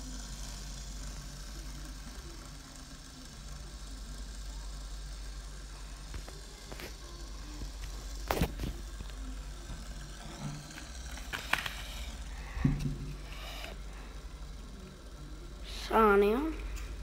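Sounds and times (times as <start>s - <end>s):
fidget spinner spinning on wood: 0.0s - 17.0s
steady low hum: 0.0s - 17.0s.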